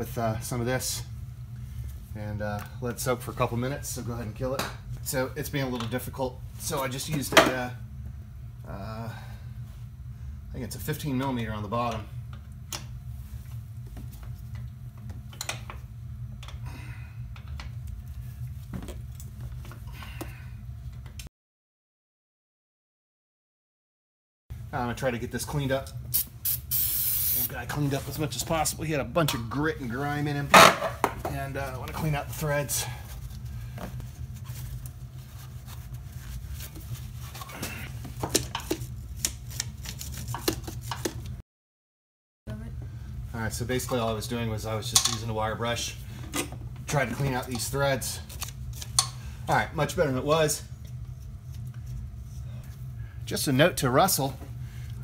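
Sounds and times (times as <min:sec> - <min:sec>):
steady low hum: 0:00.0 - 0:21.3, 0:24.5 - 0:41.4, 0:42.5 - 0:55.0.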